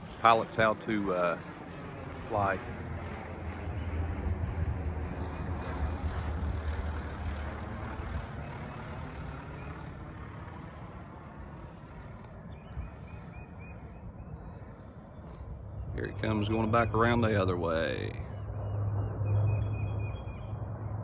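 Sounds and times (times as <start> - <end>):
airplane engine drone: 0.0 - 21.0.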